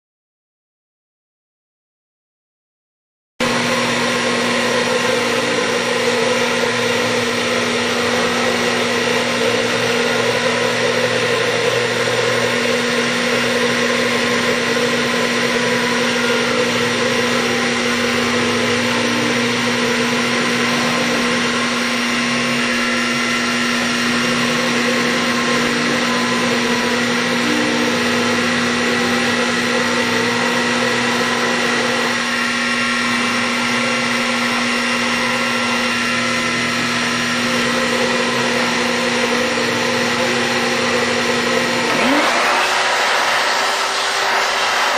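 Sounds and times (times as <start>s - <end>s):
even whine: 3.4s - 44.9s
mini mill cutting plastic: 3.4s - 44.9s.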